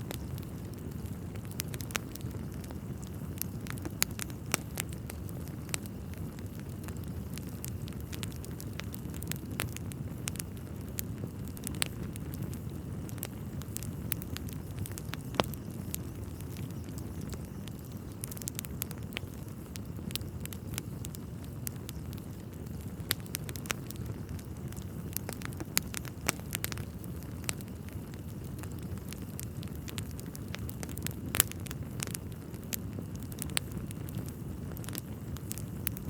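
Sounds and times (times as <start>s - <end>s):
low rush of flame: 0.0s - 36.0s
wood fire crackling and popping: 0.0s - 36.0s.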